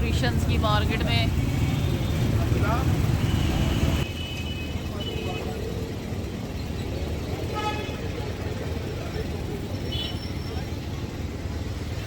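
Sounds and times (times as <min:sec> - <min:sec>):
street traffic rumbling: 0:00.0 - 0:12.0.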